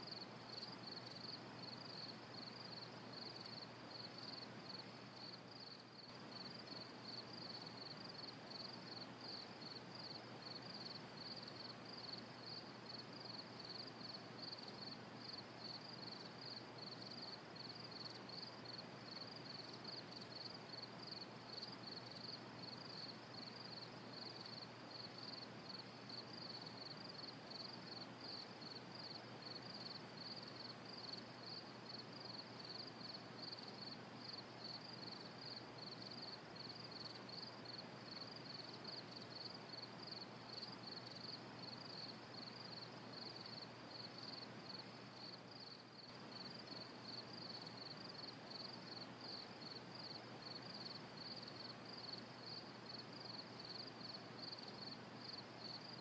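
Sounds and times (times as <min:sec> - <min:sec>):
low steady hiss: 0:00.0 - 0:56.0
crickets chirping: 0:00.1 - 0:56.0.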